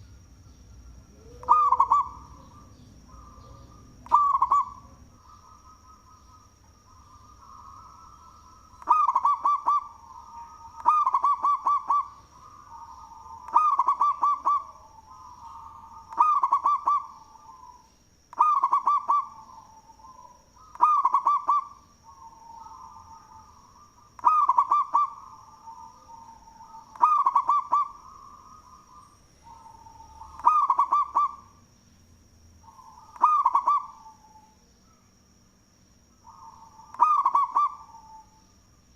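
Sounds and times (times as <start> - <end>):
dove cooing: 1.1 - 31.6, 32.6 - 34.6, 36.2 - 38.4.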